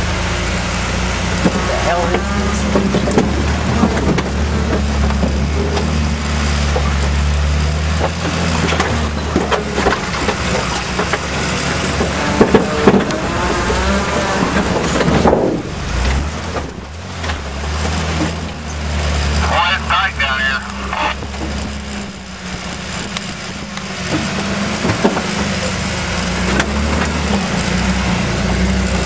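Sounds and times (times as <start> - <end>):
car engine running: 0.0 - 29.0
vehicle clattering over rough ground: 0.0 - 29.0.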